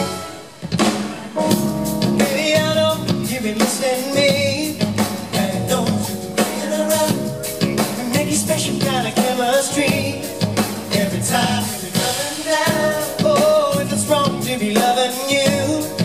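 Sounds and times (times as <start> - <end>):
band playing pop music: 0.0 - 16.0
male vocal group singing: 2.2 - 16.0.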